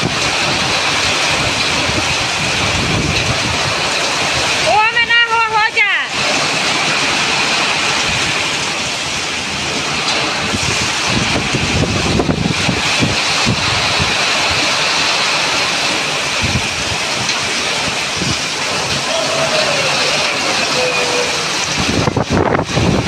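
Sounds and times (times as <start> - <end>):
wind buffeting microphone: 0.0 - 5.2, 6.1 - 23.0
heavy rain pouring: 0.0 - 23.0.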